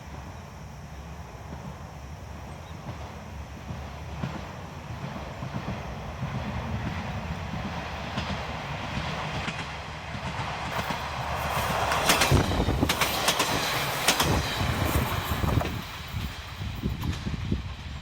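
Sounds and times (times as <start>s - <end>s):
diesel railcar engine running: 0.0s - 18.0s
train wheels clacking over rail joints: 2.8s - 17.6s.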